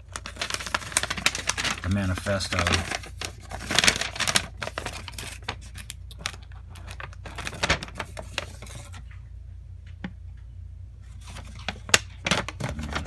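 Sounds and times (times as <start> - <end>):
paper and cardboard rustling: 0.0 - 9.2, 11.0 - 13.0
steady low hum: 0.0 - 13.0.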